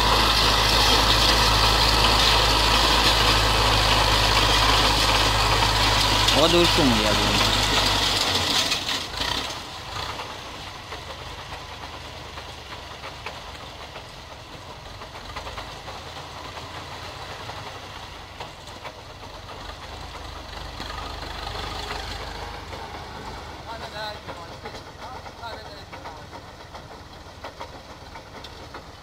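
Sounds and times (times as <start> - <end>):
power harrow through soil: 0.0 - 29.0
tractor diesel engine running: 0.0 - 29.0.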